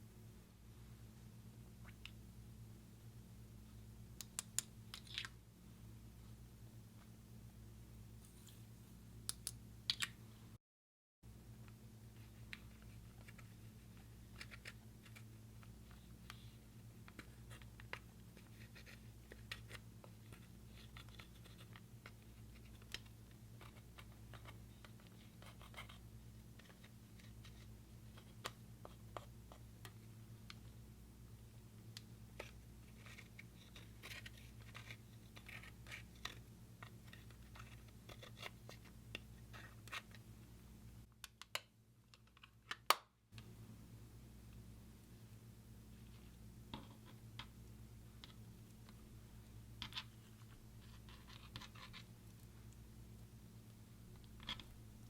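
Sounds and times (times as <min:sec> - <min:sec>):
low steady hum: 0:00.0 - 0:10.6, 0:11.2 - 0:55.0.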